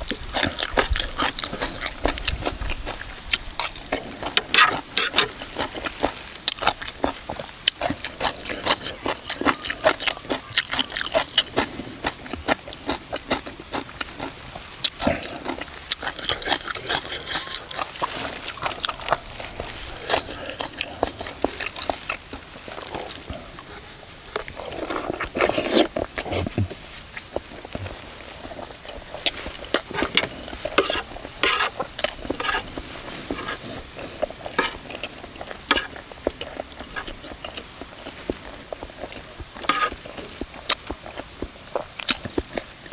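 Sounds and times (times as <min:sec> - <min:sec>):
crunchy chewing: 0:00.0 - 0:42.9.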